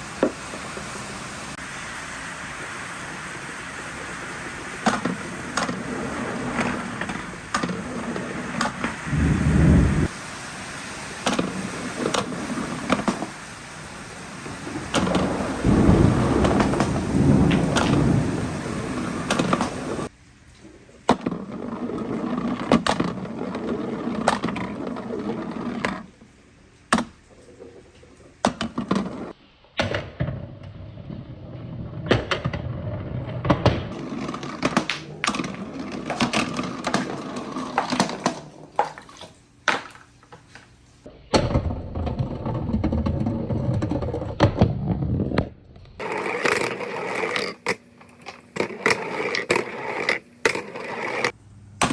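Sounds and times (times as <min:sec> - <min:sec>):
marbles rolling on wooden tracks: 0:03.6 - 0:10.1, 0:11.2 - 0:20.1, 0:21.1 - 0:26.3, 0:27.0 - 0:29.4, 0:30.3 - 0:40.6, 0:41.6 - 0:51.4.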